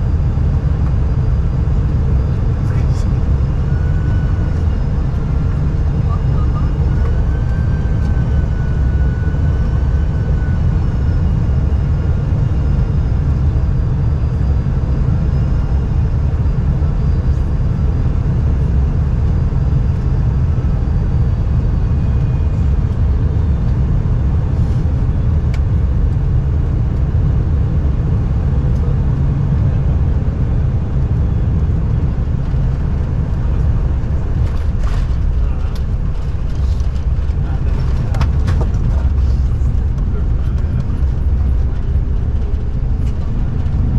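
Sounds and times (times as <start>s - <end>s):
low rumble inside moving vehicle: 0.0s - 43.9s.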